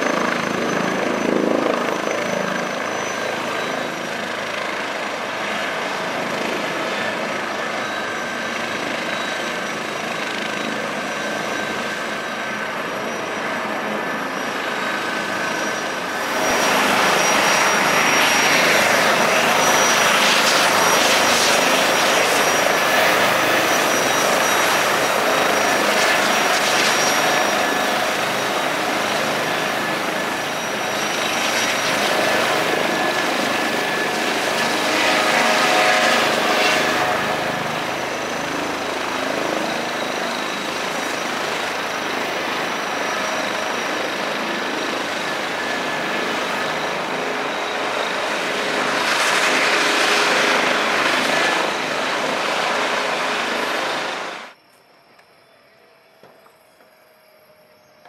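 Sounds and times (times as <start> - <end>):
helicopter rotor noise: 0.0 - 54.6
turbine engines whining: 0.0 - 58.0.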